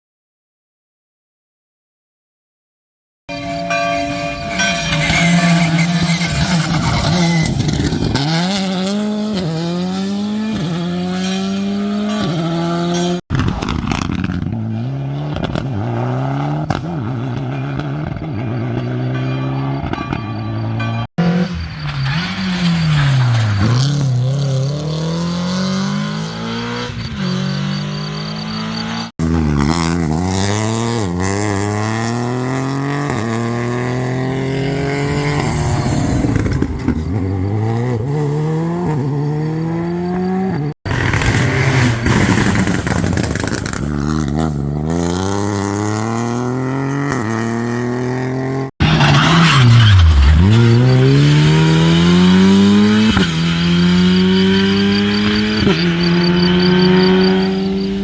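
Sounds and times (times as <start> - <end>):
rally car engines accelerating: 3.4 - 58.0.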